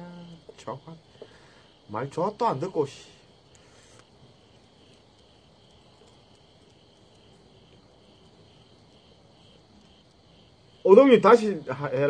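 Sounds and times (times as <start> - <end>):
faint insect chirping: 0.0 - 12.0
low background hiss: 0.0 - 12.0.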